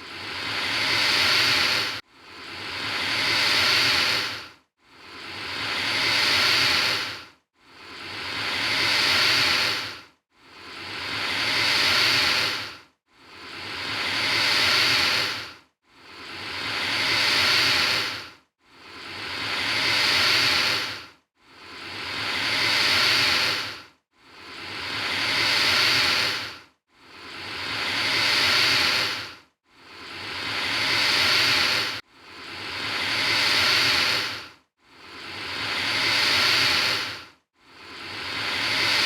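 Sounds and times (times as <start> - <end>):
alligator hissing: 0.0 - 4.4, 5.1 - 7.2, 7.8 - 10.0, 10.7 - 12.7, 13.4 - 15.5, 16.1 - 18.2, 18.9 - 21.0, 21.7 - 23.8, 24.4 - 26.6, 27.2 - 29.3, 29.9 - 34.4, 35.1 - 39.0.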